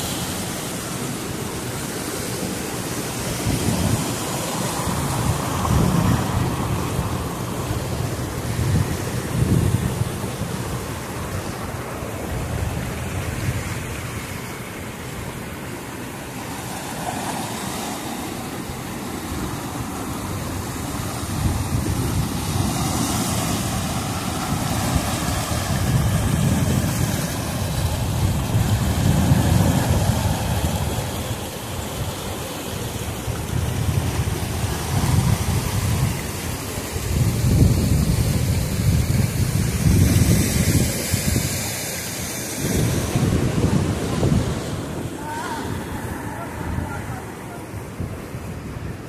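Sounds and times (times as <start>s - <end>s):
wind buffeting microphone: 0.0s - 15.7s, 18.4s - 49.0s
surf breaking over rocks: 0.0s - 49.0s.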